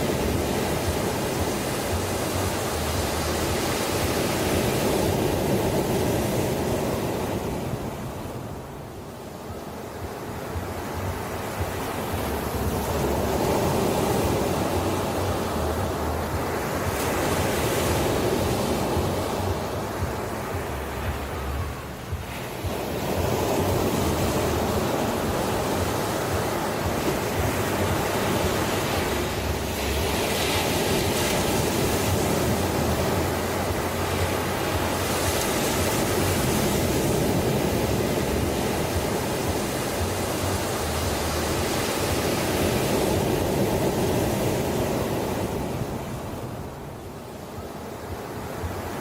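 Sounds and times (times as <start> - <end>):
ocean surf washing on shore: 0.0 - 49.0.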